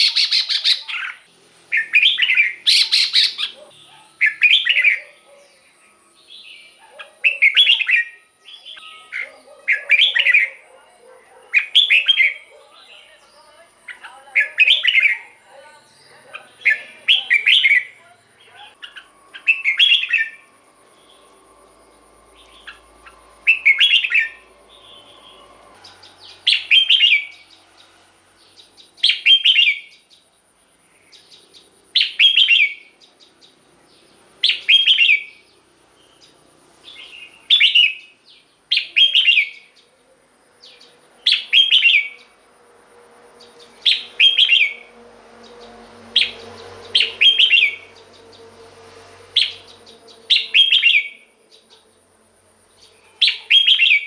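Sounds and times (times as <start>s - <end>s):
bird whistled song: 0.0s - 10.6s, 11.6s - 12.5s, 13.9s - 27.9s, 28.5s - 30.2s, 31.0s - 33.5s, 34.4s - 35.4s, 36.1s - 39.8s, 40.6s - 42.3s, 43.4s - 44.9s, 45.5s - 48.5s, 49.3s - 51.8s, 52.8s - 54.0s.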